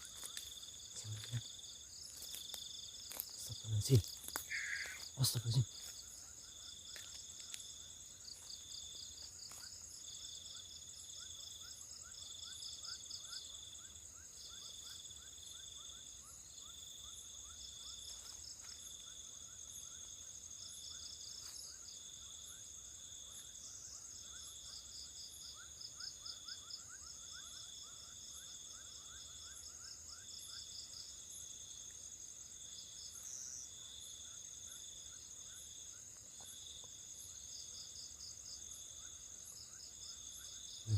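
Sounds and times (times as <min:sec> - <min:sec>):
low insect chirping: 0:00.0 - 0:40.9
pulsing insect trill: 0:00.0 - 0:40.9
steady high insect trill: 0:00.0 - 0:40.9.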